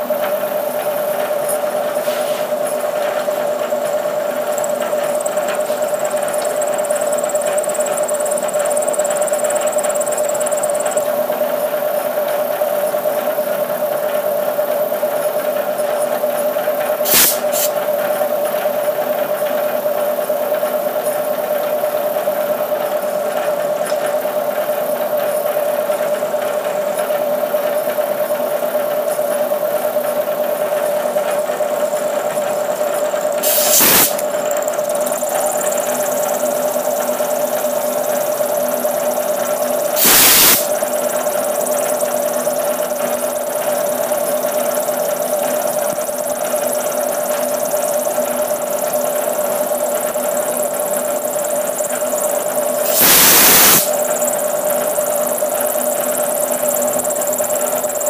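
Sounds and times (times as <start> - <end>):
milling machine hum and whine: 0.0 - 58.0.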